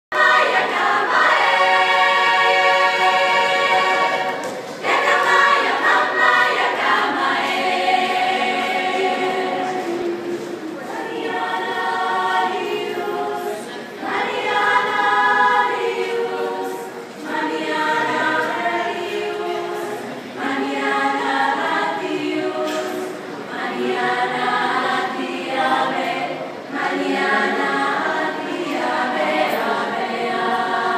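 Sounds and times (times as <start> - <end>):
women's choir singing: 0.1 - 30.9.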